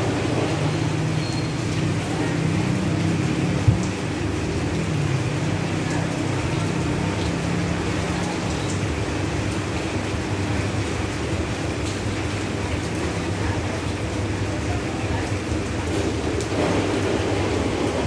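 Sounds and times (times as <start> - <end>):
rain on leaves: 0.0 - 18.0.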